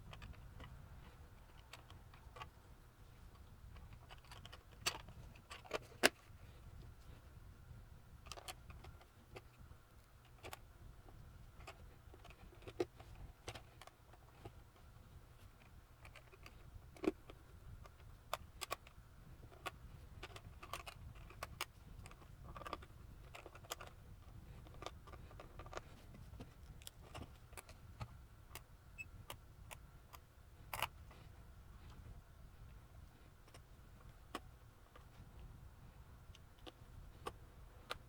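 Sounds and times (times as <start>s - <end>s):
small parts clicking and tapping: 0.0s - 6.3s, 8.2s - 32.0s, 36.3s - 38.0s.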